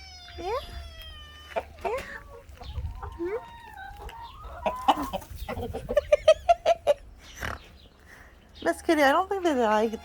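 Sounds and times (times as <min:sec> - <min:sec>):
chickens clucking: 0:01.3 - 0:10.0.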